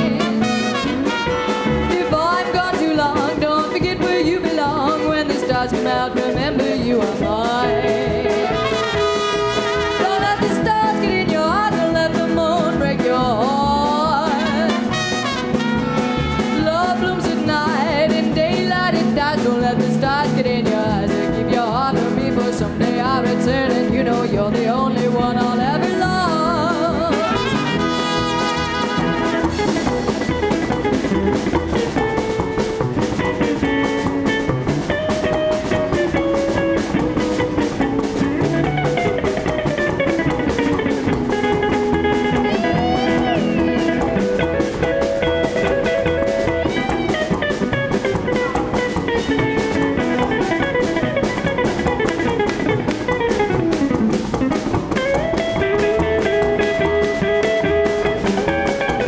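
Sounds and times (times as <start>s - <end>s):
lead guitar: 0.0s - 59.0s
small band playing swing: 0.0s - 59.0s.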